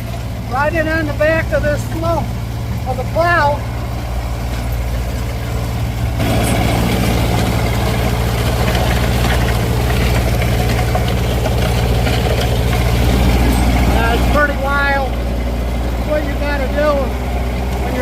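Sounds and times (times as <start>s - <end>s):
tractor engine humming: 0.0s - 18.0s.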